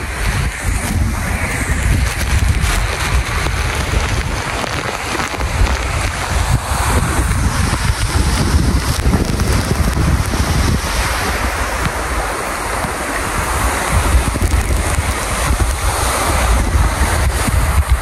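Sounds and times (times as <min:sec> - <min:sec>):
waterfall rushing: 0:00.0 - 0:18.0
wind buffeting microphone: 0:00.0 - 0:18.0.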